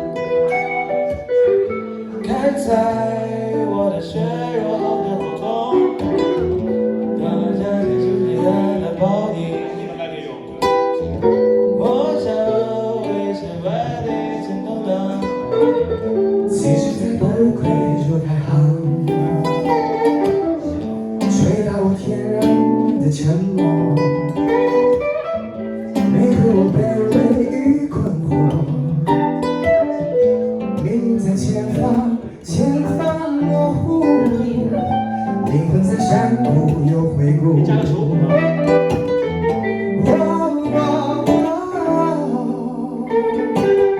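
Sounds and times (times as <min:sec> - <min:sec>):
acoustic and electric guitars jamming: 0:00.0 - 0:43.9.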